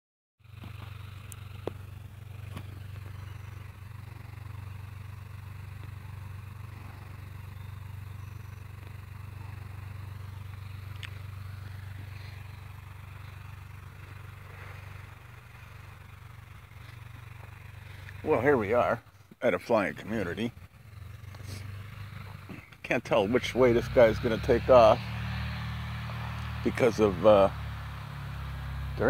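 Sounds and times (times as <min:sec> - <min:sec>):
distant light aircraft engine: 0:00.4 - 0:29.0.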